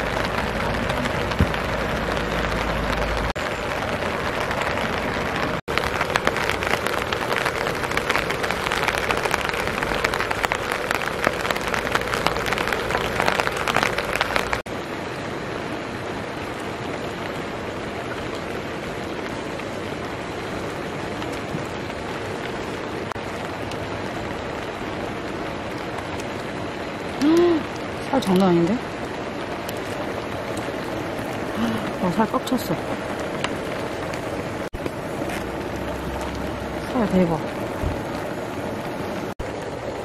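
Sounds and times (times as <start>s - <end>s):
rain pattering: 0.0s - 40.0s.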